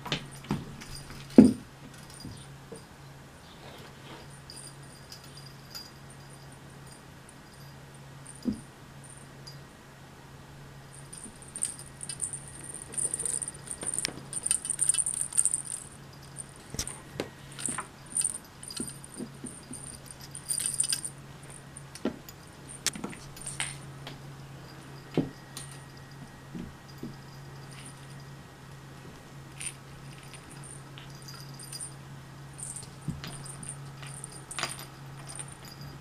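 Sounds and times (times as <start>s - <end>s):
cat toy jingling and rattling: 0.2s - 2.6s, 4.2s - 9.6s, 10.9s - 28.4s, 29.5s - 32.0s, 32.6s - 36.0s.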